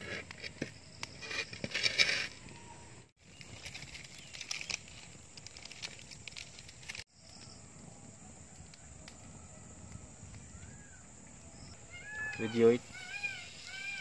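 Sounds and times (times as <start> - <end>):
fire crackling: 0.0 - 13.7.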